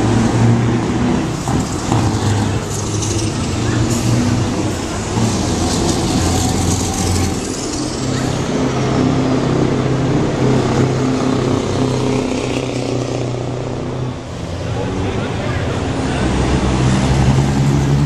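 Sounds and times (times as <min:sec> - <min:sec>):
loud truck engines driving past: 0:00.0 - 0:18.0.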